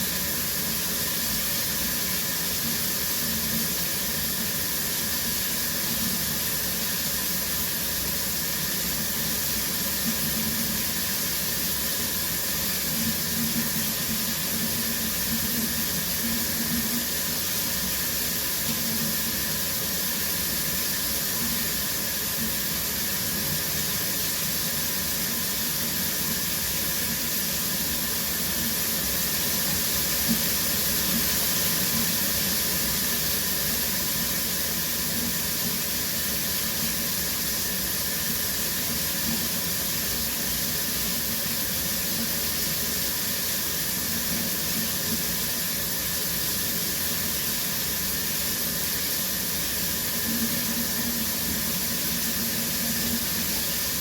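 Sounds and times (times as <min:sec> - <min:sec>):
shower spray running: 0:00.0 - 0:54.0.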